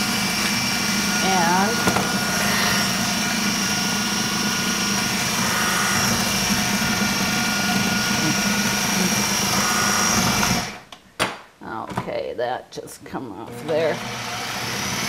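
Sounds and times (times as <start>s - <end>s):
electric blender running: 0.0s - 10.8s, 13.5s - 15.0s.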